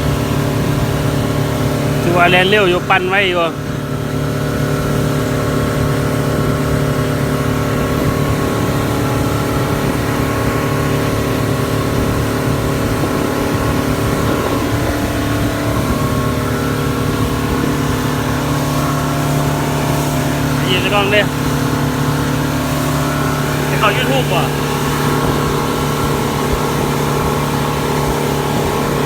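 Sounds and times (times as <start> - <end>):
motorboat engine running: 0.0 - 29.0.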